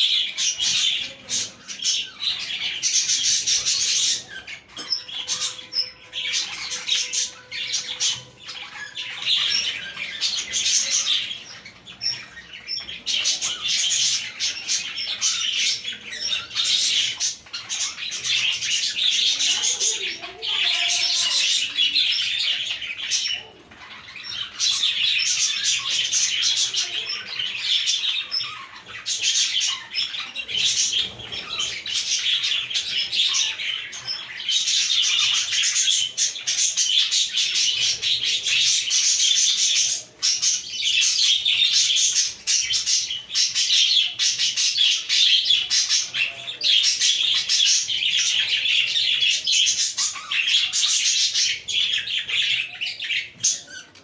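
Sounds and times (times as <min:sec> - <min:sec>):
budgerigars chattering and warbling: 0:00.0 - 0:54.0.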